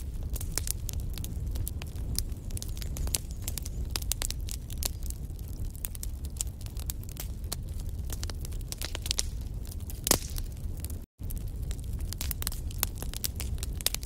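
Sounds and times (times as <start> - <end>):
burning logs crackling and popping: 0.0 - 14.0
low rumble of flames: 0.0 - 14.0.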